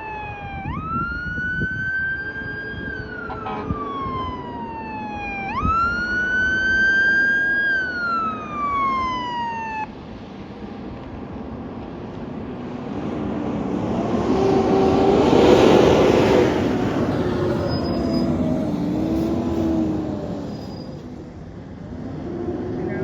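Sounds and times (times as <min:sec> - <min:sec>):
fire engine siren wailing: 0:00.0 - 0:10.0, 0:13.7 - 0:23.0
engine and road noise: 0:00.0 - 0:23.0.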